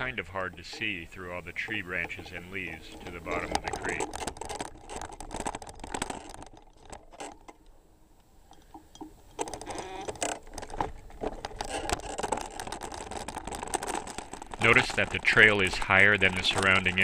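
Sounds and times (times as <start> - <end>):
bicycle rattling over rough trail: 0.0 - 17.0.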